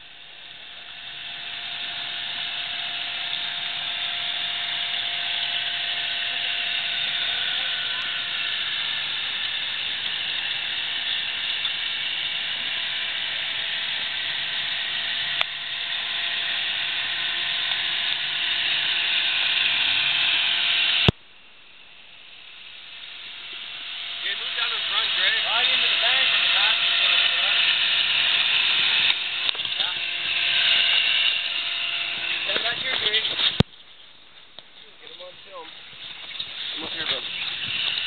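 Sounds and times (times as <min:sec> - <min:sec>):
engine running under load: 0:00.0 - 0:21.2, 0:21.8 - 0:38.0
thin steady whine: 0:00.0 - 0:38.0.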